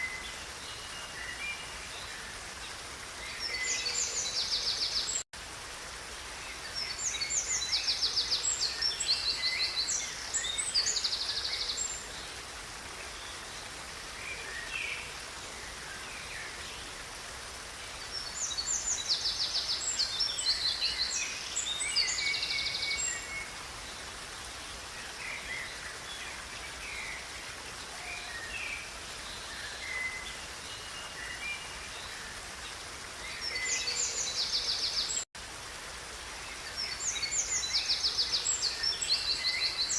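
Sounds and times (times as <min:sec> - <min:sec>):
songbirds singing: 0:00.0 - 0:05.2, 0:06.2 - 0:35.3, 0:36.2 - 0:39.9
river flowing: 0:00.0 - 0:39.9.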